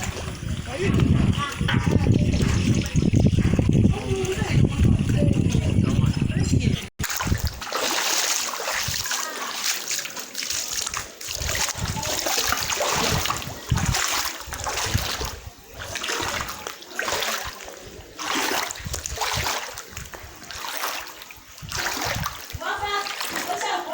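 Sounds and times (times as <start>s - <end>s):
floodwater splashing and sloshing: 0.0s - 23.9s.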